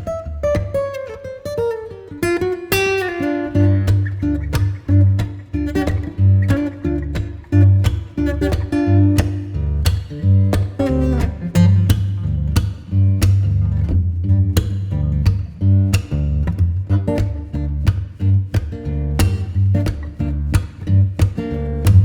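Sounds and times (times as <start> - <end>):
plucked guitar: 0.0 - 22.0
steady bass line: 3.6 - 22.0.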